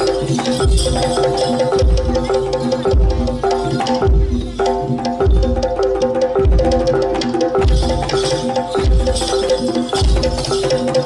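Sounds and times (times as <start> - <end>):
live music melody with percussion: 0.0 - 11.0.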